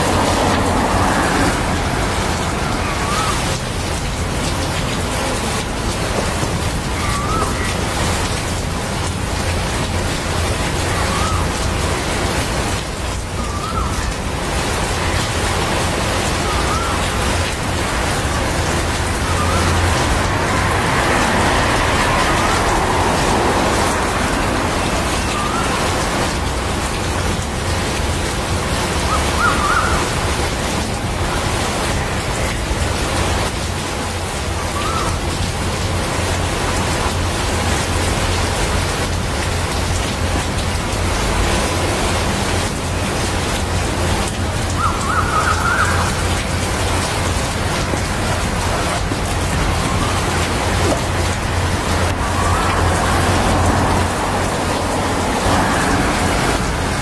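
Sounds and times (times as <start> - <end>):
rain falling steadily: 0.0 - 57.0.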